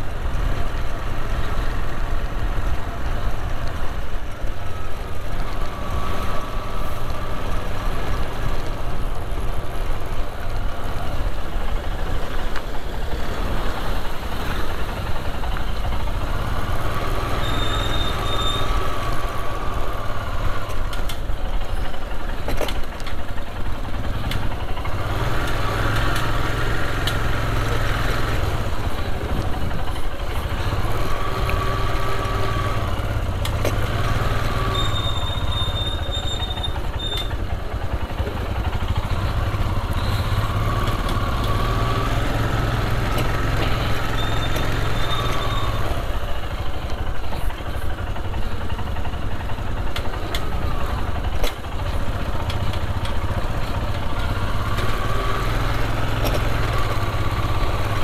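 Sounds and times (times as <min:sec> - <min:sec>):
motorcycle engine running: 0:00.0 - 0:58.0
street traffic: 0:00.0 - 0:58.0.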